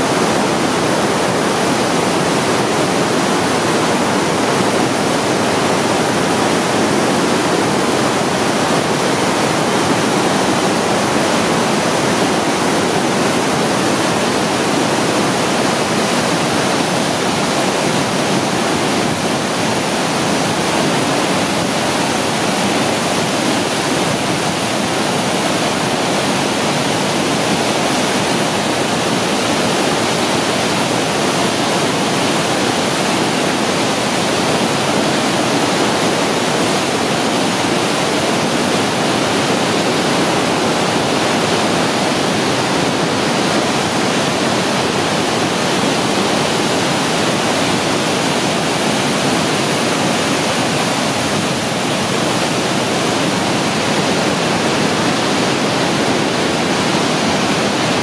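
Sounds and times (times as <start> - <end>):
roar of river rapids: 0.0 - 58.0.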